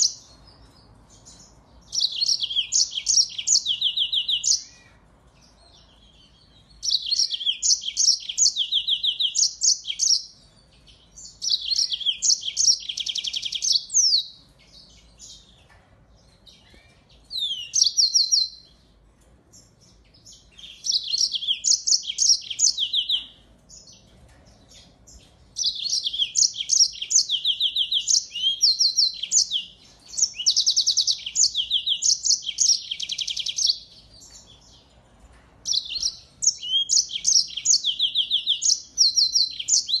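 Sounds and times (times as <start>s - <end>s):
finch singing trills: 0.0s - 15.7s, 16.3s - 18.9s, 19.5s - 34.8s, 35.6s - 40.0s.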